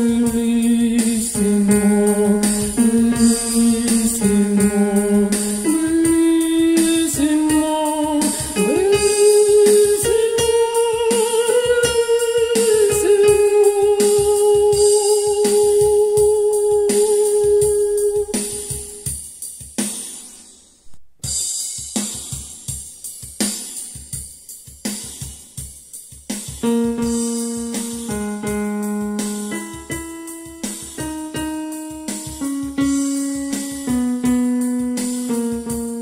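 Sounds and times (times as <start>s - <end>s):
keyboard with drums: 0.0s - 36.0s.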